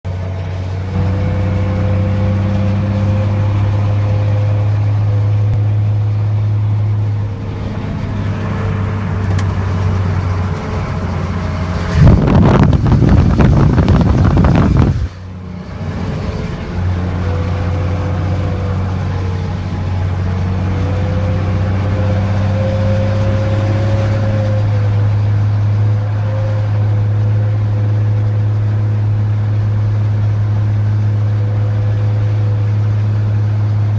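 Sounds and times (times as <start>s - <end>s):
diesel engine drone: 0.0s - 33.9s
loud rough engine noise: 0.0s - 33.9s
thin wavering whine: 0.2s - 33.9s.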